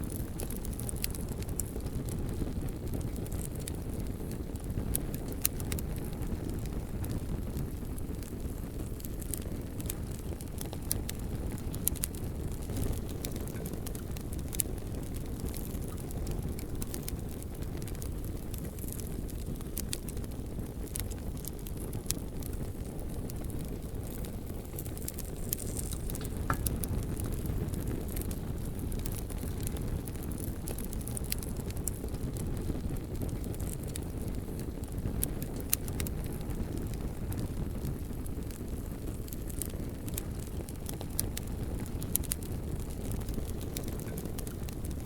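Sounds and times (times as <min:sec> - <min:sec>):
fire crackling and popping: 0:00.0 - 0:45.0
low rumble of flames: 0:00.0 - 0:45.0.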